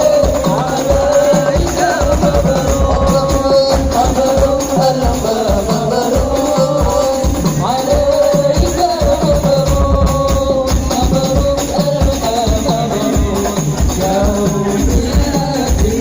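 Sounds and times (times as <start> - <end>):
frame drums with jingles: 0.0 - 16.0.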